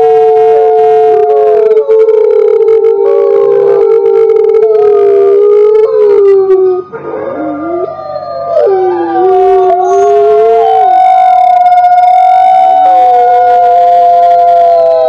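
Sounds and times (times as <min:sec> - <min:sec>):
wolves howling in chorus: 0:00.0 - 0:15.0.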